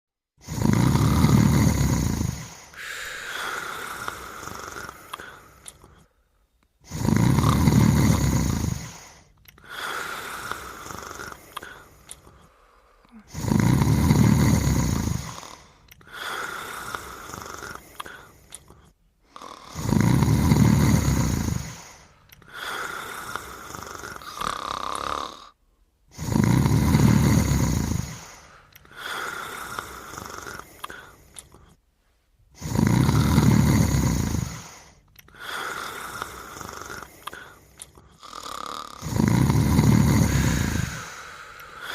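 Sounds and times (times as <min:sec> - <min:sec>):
loud low snoring: 0:00.4 - 0:05.9, 0:06.8 - 0:12.2, 0:13.1 - 0:31.6, 0:32.5 - 0:41.9.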